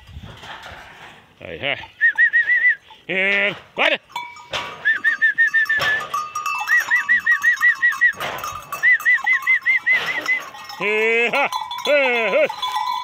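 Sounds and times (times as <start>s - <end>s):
goat bells jangling: 1.8s - 13.0s.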